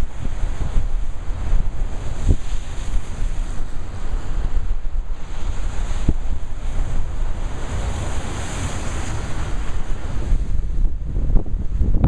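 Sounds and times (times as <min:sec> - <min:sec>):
surf crashing over rocks: 0:00.0 - 0:12.0
wind buffeting microphone: 0:00.0 - 0:12.0.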